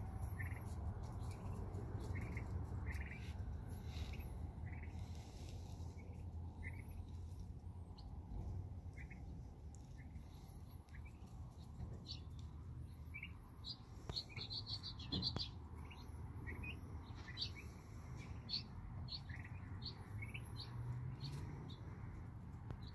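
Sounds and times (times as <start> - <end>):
turkey poults peeping: 0.2 - 8.1, 8.9 - 21.8.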